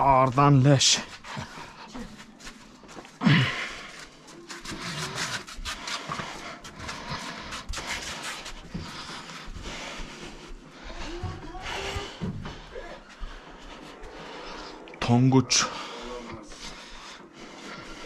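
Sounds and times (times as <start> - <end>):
heavy breathing: 0.8 - 18.0.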